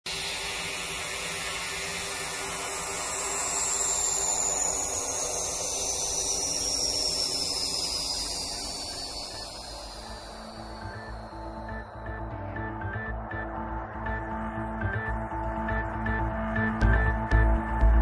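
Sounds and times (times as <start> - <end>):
electronic noise sweep: 0.1 - 15.0.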